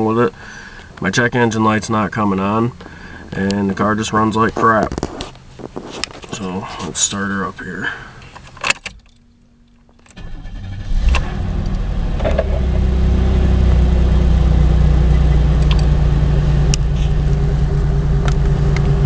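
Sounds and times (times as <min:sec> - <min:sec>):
car engine cranking and idling: 0:00.0 - 0:19.0.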